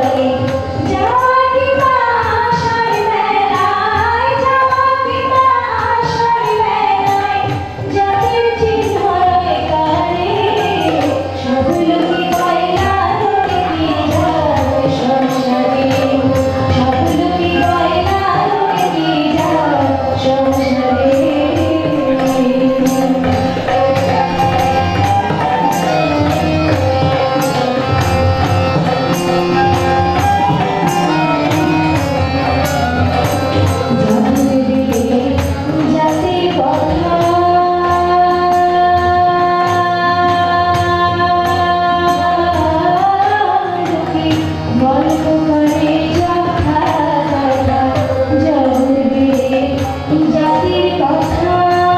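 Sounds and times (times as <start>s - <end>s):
hand percussion beat: 0.0s - 51.9s
harmonium chords: 0.0s - 51.9s
woman singing into a microphone: 0.0s - 51.9s.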